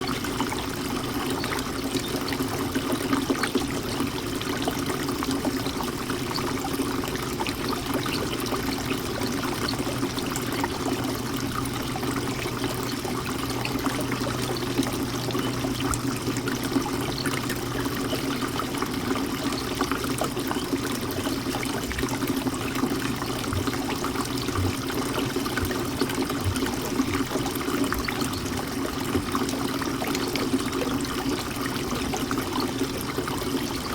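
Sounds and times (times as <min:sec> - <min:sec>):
fountain water trickling: 0:00.0 - 0:33.9.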